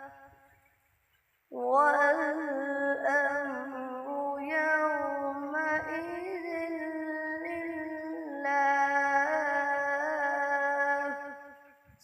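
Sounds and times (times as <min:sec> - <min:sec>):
boy reciting melodically: 0:00.0 - 0:00.4, 0:01.5 - 0:11.8.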